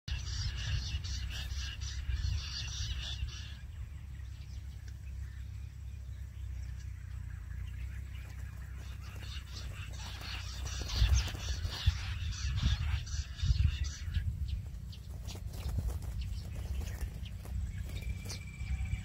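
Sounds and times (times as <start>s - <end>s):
quail calling: 0.1s - 4.0s, 6.4s - 19.0s.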